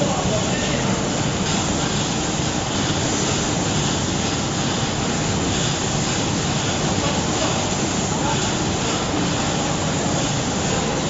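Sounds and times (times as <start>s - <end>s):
packing machinery running: 0.0s - 11.0s.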